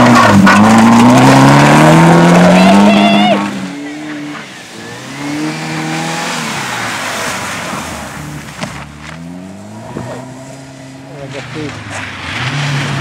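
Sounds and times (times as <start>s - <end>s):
rally car engine revving: 0.0s - 13.0s
tyre and road noise: 0.0s - 13.0s.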